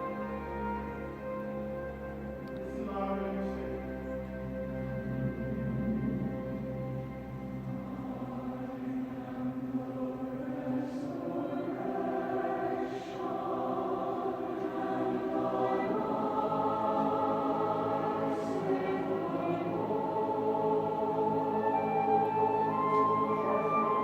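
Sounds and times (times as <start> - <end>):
choir singing a cappella: 0.0 - 24.0.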